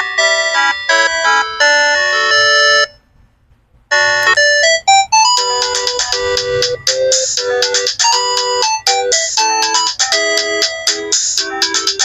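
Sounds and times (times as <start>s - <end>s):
polyphonic ringtone melody: 0.0s - 3.0s, 3.9s - 12.0s.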